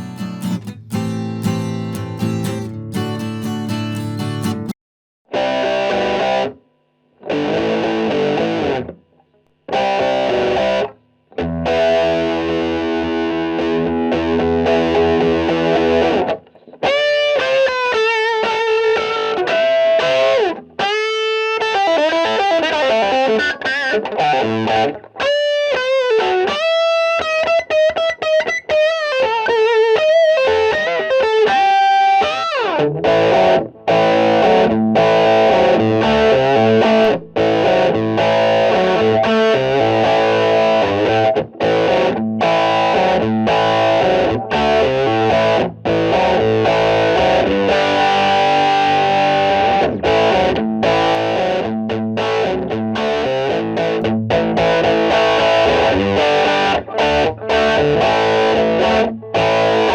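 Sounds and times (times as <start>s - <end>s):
distorted electric guitar: 0.0s - 9.1s, 9.7s - 59.9s.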